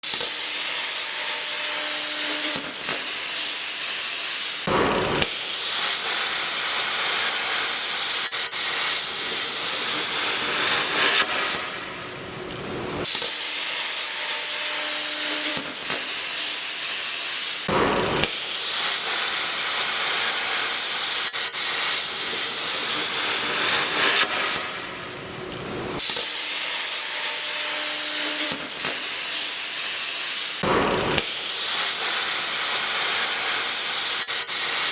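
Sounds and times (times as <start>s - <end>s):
plasma cutter hissing: 0.0s - 34.9s.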